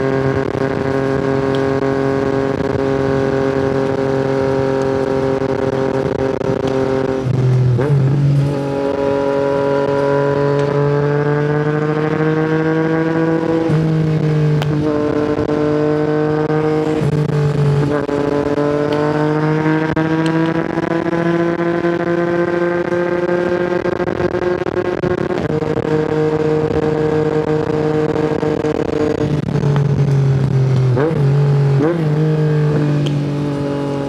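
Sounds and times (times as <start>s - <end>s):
motorcycle engine upshifting: 0.0s - 34.0s.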